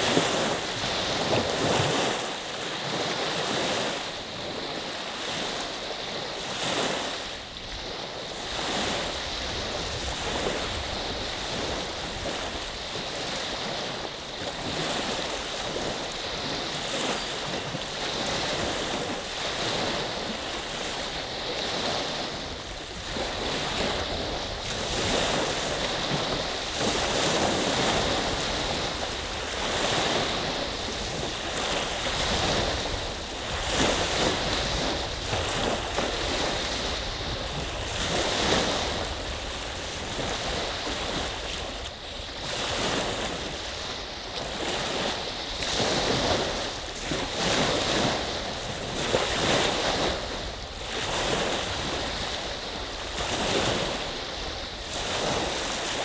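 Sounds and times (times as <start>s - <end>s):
waves washing on shore: 0.0s - 56.0s
wind rumbling on microphone: 0.0s - 56.0s.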